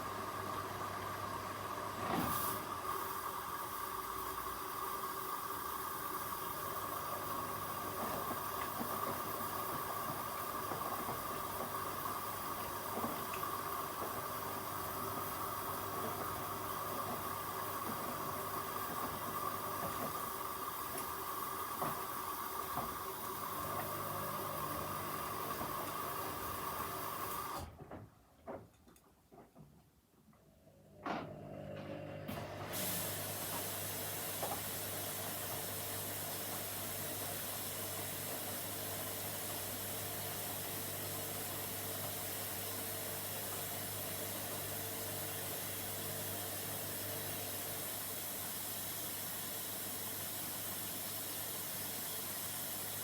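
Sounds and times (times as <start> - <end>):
washing machine filling with water: 0.0 - 27.8, 31.3 - 53.0.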